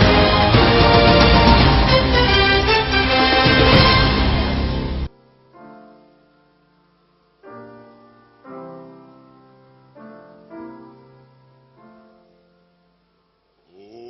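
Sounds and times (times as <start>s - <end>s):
piano chords ringing: 0.0s - 13.4s.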